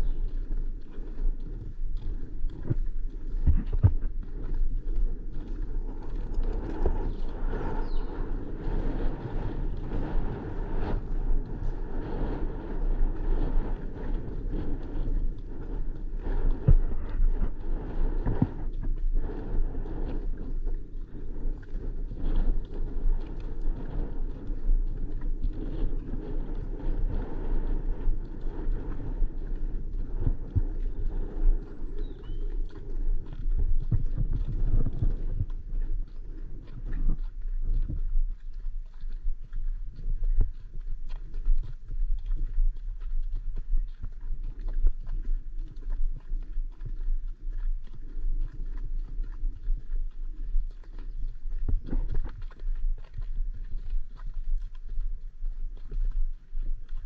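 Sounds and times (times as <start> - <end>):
horse hooves on sandy track: 0.0 - 57.0
wind rumble on microphone: 0.0 - 57.0.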